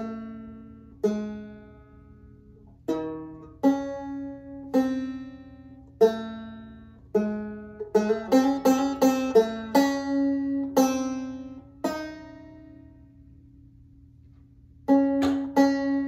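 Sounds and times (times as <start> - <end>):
banjo chords plucked: 0.0 - 13.5, 14.3 - 16.0.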